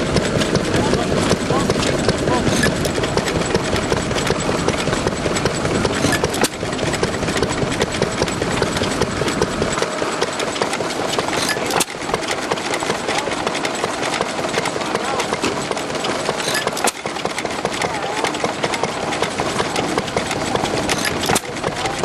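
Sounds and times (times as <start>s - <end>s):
stationary engine ticking: 0.0s - 22.0s.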